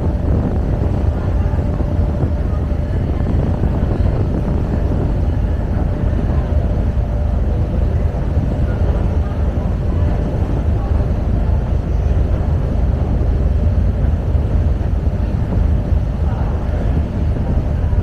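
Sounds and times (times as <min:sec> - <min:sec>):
ship engines rumbling: 0:00.0 - 0:18.0.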